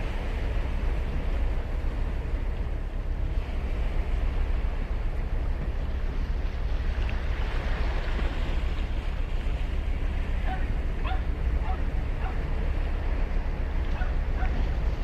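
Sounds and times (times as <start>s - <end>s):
ocean surf breaking: 0.0s - 15.0s
wind rumble on microphone: 0.0s - 15.0s.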